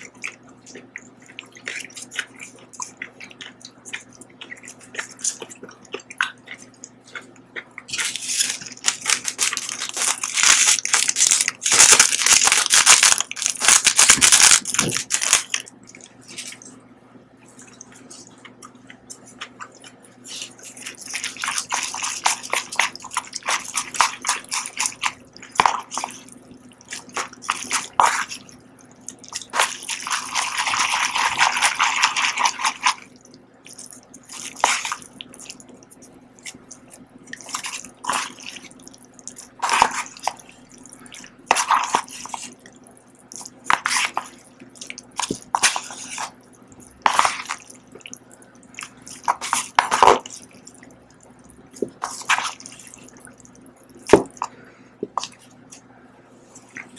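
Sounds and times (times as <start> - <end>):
chewing sounds: 0.0 - 56.9.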